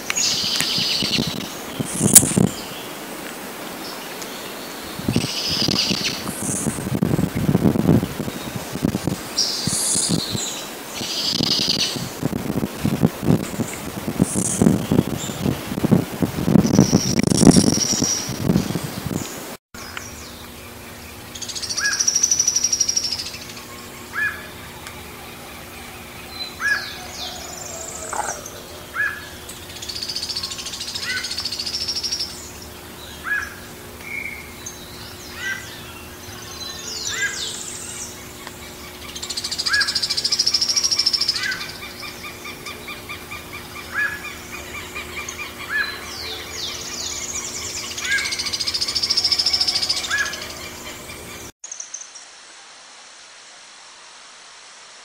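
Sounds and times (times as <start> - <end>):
steady low hum: 0.0 - 51.5.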